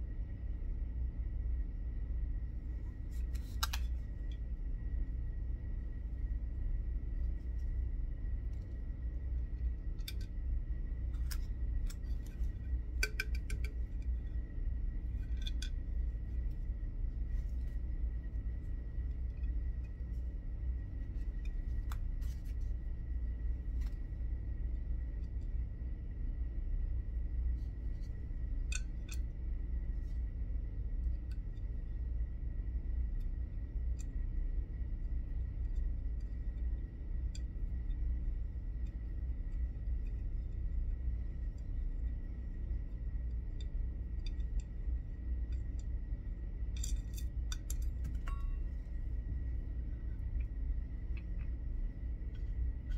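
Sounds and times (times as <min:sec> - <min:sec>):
faint high whine: 0:00.0 - 0:52.9
steady low hum: 0:00.0 - 0:52.9.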